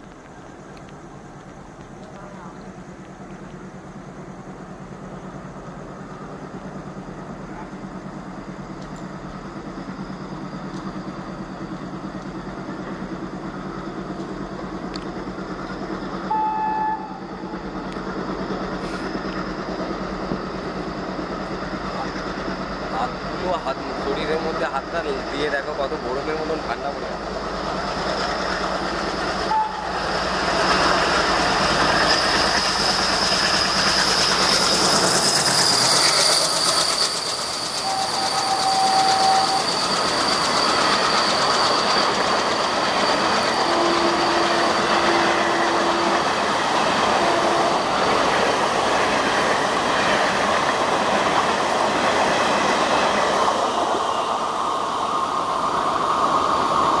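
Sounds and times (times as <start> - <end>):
diesel locomotive engine chugging: 0.0 - 57.0.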